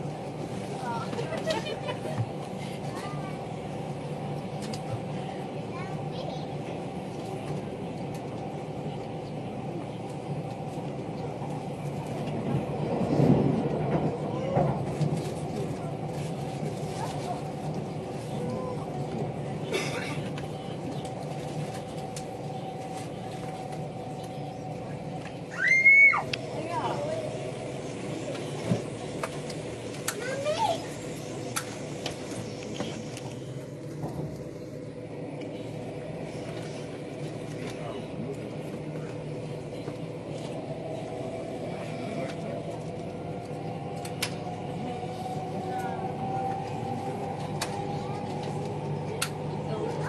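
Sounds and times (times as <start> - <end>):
train carriage rumble: 0.0 - 50.0.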